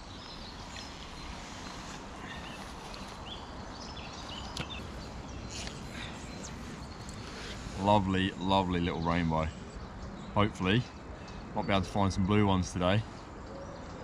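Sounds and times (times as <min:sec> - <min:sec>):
bird chirps: 0:00.0 - 0:14.0
steady low outdoor noise: 0:00.0 - 0:14.0.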